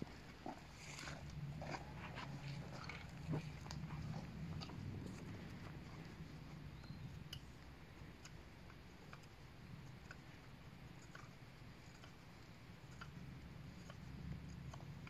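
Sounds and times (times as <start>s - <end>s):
knife shaving wooden stick: 0.2s - 15.0s.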